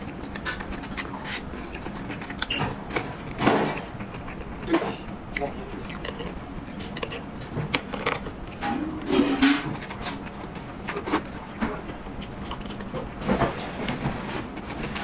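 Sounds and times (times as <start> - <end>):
person chewing: 0.0 - 13.2.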